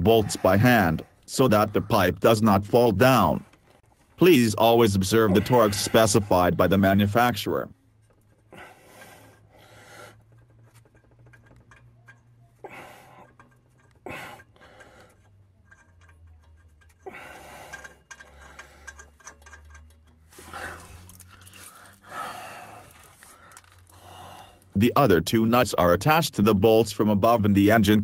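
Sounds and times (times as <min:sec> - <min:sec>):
metal nuts clicking and scraping: 0:00.0 - 0:27.0.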